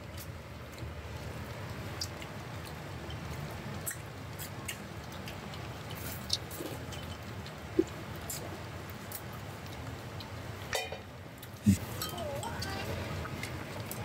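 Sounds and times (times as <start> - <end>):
pot simmering: 0.0 - 14.0.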